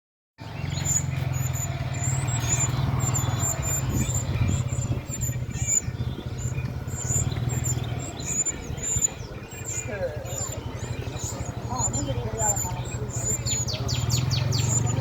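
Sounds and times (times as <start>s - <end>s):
birds chirping: 0.4s - 15.0s.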